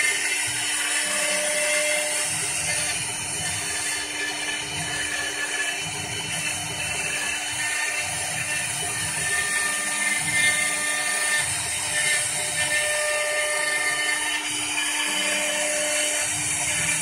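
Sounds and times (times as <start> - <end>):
lathe motor whine and wood cutting: 0.0 - 17.0.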